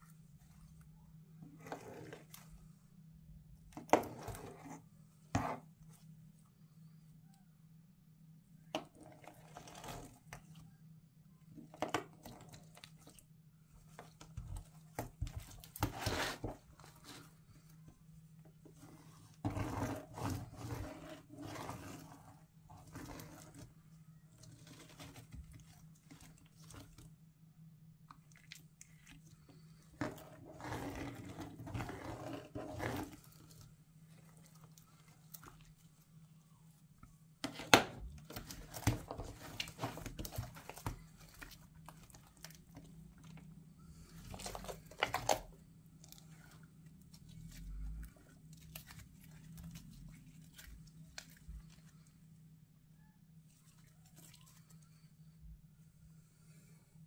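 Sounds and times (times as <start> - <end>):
faint steady low hum: 0.0 - 57.0.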